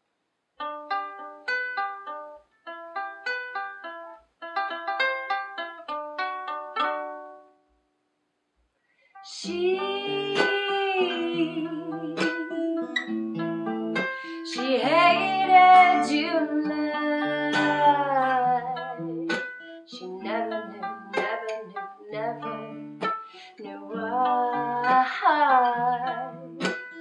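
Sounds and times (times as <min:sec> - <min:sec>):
acoustic guitar and ukulele playing: 0:00.6 - 0:07.6, 0:09.3 - 0:27.0
plucked melody: 0:00.6 - 0:07.7, 0:09.2 - 0:27.0.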